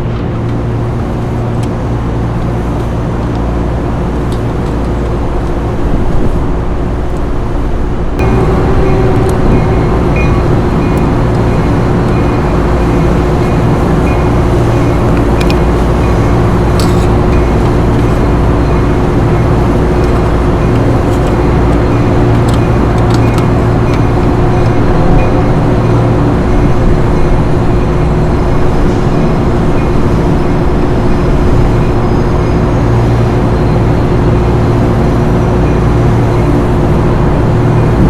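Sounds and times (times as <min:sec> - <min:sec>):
machinery drone: 0:00.0 - 0:38.0.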